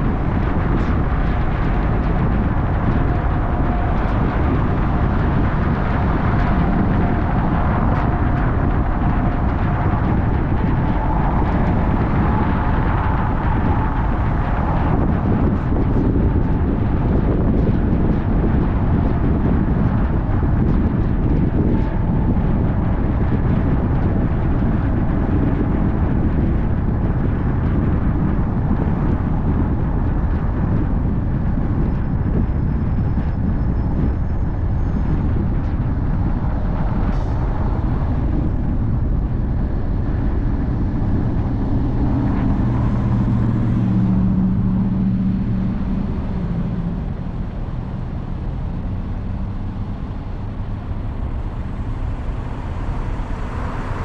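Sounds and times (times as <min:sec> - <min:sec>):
car engine hum: 0:00.0 - 0:54.0
road and tyre noise: 0:00.0 - 0:54.0.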